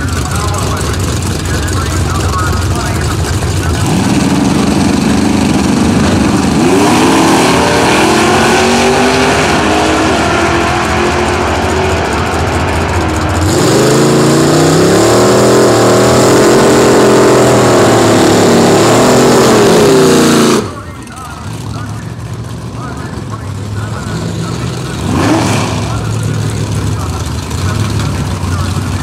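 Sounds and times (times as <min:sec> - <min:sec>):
drag racing cars accelerating: 0:00.0 - 0:29.0.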